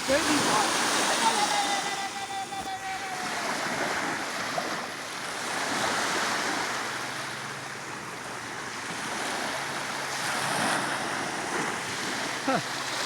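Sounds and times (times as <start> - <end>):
small waves washing onto beach: 0.0 - 13.0.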